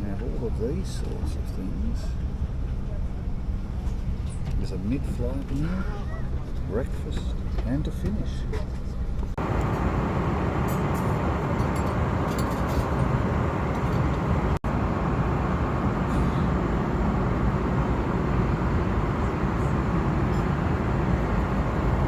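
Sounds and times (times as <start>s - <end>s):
aircraft cabin engine hum: 0.0s - 22.0s.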